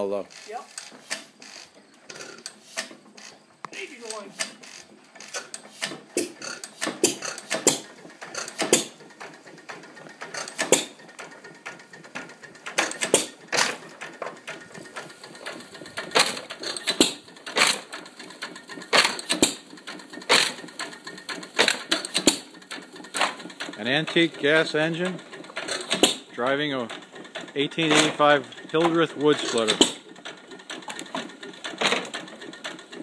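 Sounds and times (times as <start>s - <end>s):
mechanical clatter: 0.3s - 33.0s
engine bangs: 0.9s - 33.0s.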